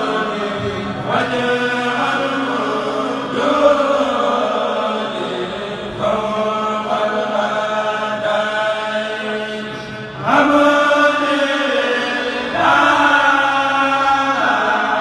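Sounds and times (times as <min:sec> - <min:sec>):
male voices chanting in unison: 0:00.0 - 0:15.0.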